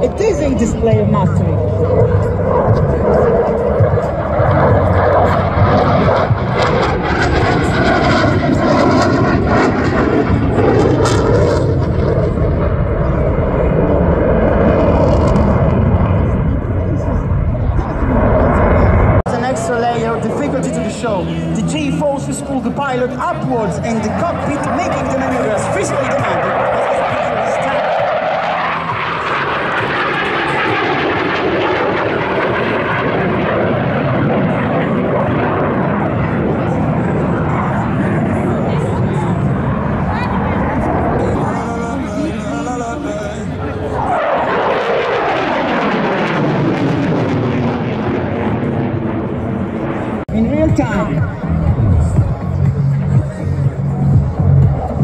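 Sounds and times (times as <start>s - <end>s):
fighter jet engine roar: 0.0s - 55.0s.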